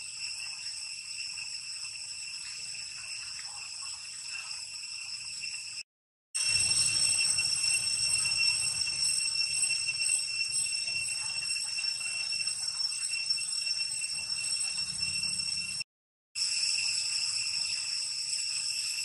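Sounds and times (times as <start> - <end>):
high-pitched insect drone: 0.0 - 5.8, 6.4 - 19.0.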